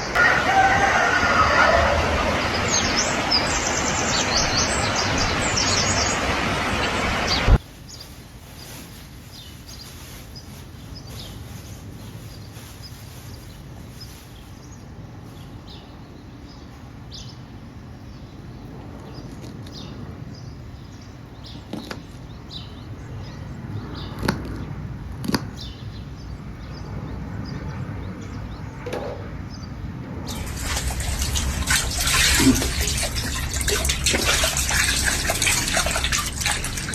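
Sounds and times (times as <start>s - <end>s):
low outdoor background hum: 0.0s - 36.9s
small birds chirping: 1.4s - 24.8s, 25.4s - 28.8s, 29.5s - 36.9s.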